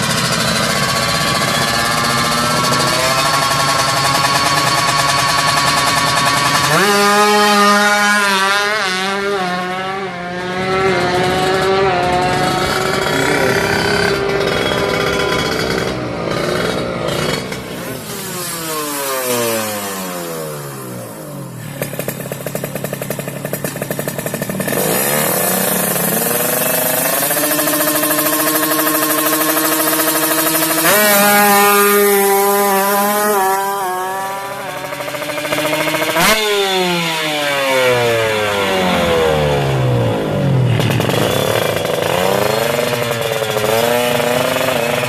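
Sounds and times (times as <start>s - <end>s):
two-stroke engine revving: 0.0s - 45.0s.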